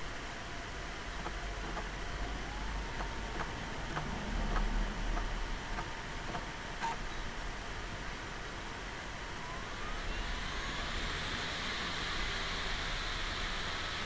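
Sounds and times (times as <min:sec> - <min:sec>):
disc drive whine: 0:00.0 - 0:14.0
steady hiss: 0:00.0 - 0:14.0.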